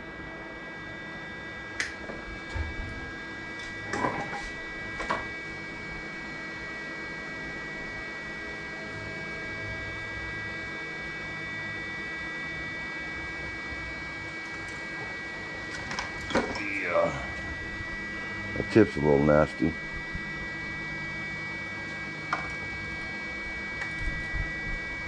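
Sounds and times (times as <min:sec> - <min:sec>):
welder electrical hum: 0:00.0 - 0:25.0.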